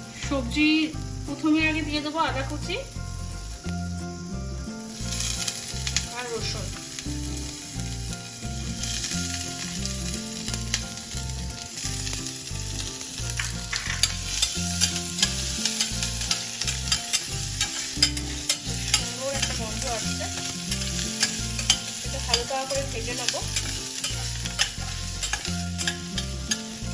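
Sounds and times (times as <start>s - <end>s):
food sizzling in hot oil: 0.0s - 26.9s
metal spoon scraping a pot: 5.1s - 26.9s.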